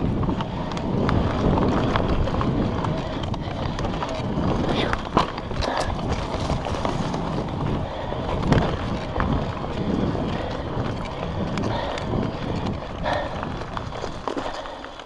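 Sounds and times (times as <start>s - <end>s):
wind buffeting microphone: 0.0s - 14.8s
bike knocks and rattles: 0.0s - 15.0s
tyre rumble on dirt trail: 0.0s - 15.0s.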